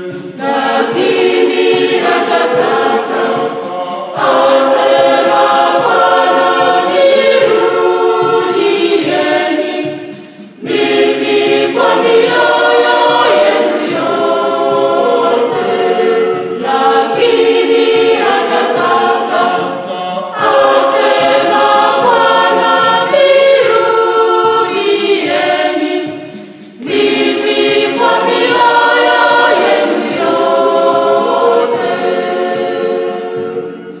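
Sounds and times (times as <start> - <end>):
women's choir singing gospel: 0.0 - 34.0.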